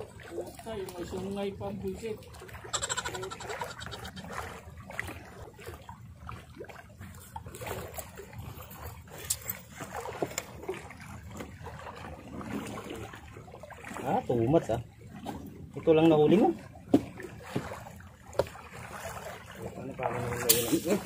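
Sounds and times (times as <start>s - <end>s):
sea water splashing at shore: 0.0s - 21.0s.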